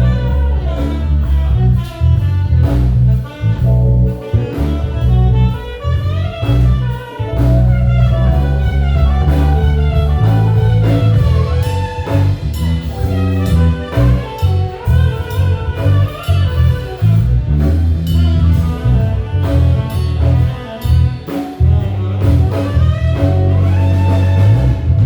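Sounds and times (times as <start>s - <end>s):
bass line: 0.0s - 25.0s
live jazz blues band: 0.0s - 25.0s.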